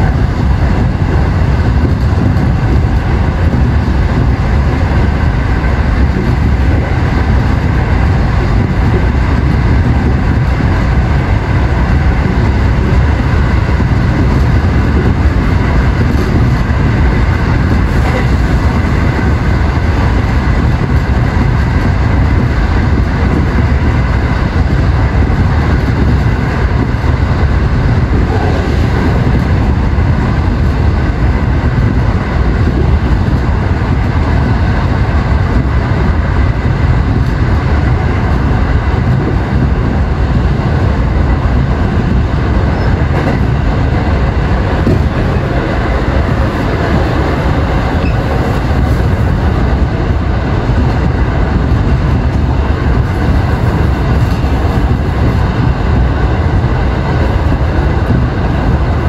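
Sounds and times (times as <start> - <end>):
train rumbling in tunnel: 0.0 - 59.0.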